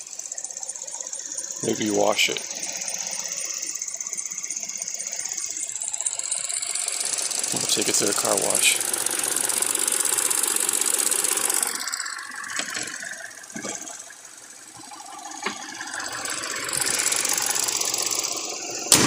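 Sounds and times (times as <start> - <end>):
car engine idling: 0.0 - 19.0
light engine ticks: 0.0 - 19.0.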